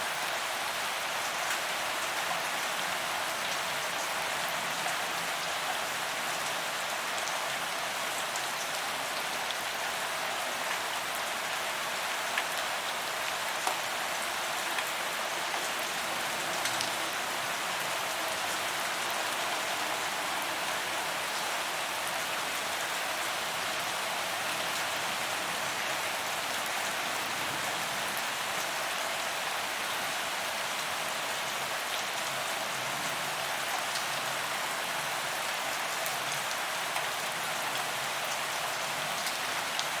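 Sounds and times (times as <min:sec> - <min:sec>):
rain on pavement: 0:00.0 - 0:40.0.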